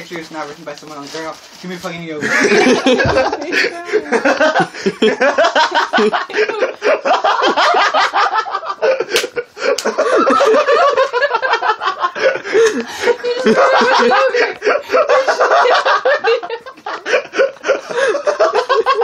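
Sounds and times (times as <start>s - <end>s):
people laughing: 2.2s - 19.0s.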